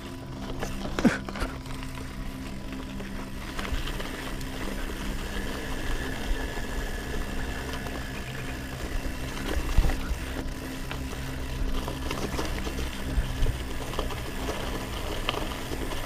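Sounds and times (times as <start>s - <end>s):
bike frame rattle: 0.0s - 16.0s
bike tyres crunching gravel: 0.0s - 16.0s
low hum: 0.0s - 16.0s.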